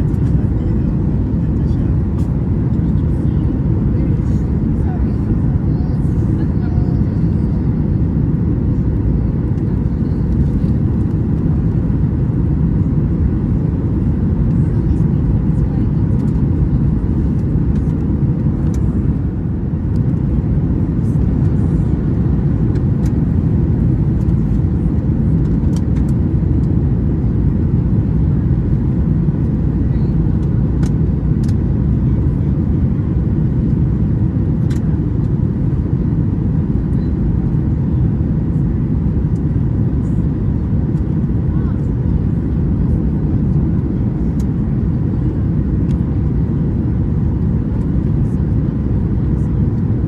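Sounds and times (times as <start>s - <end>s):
airplane cabin rumble: 0.0s - 50.0s.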